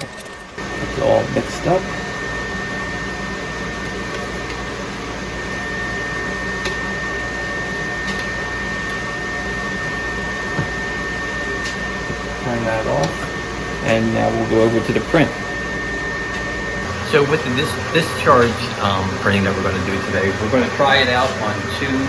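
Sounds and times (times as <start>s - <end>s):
motor hum with high whine: 0.0s - 22.0s.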